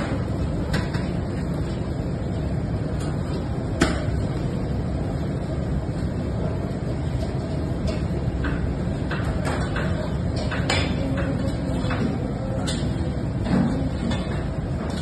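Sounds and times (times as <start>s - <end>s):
kitchen machinery rumble: 0.0s - 15.0s.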